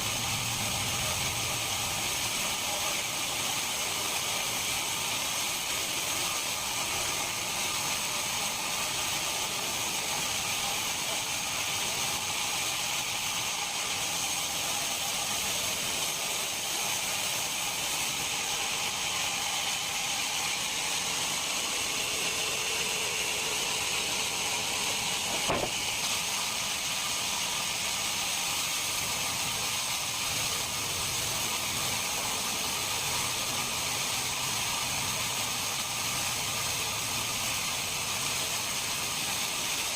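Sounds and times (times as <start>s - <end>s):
machine hiss with whining tones: 0.0s - 39.9s.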